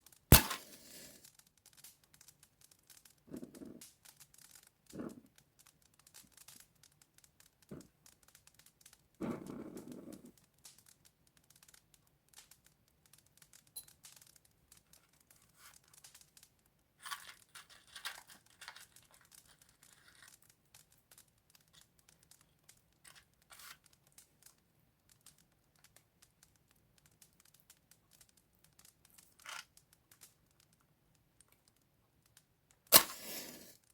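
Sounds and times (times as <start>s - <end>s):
match burning crackle: 0.0s - 33.9s
matches striking: 0.1s - 33.9s.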